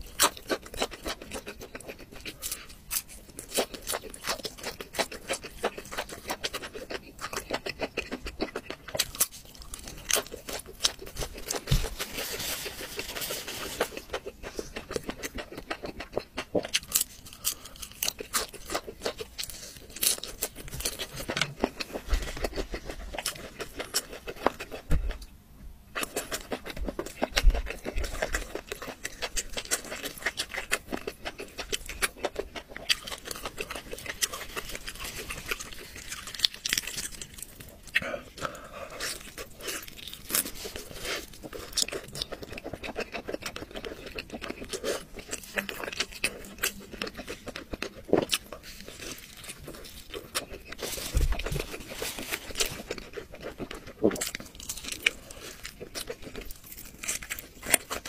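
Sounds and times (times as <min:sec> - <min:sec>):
chewing and tearing chicken: 0:00.0 - 0:58.0.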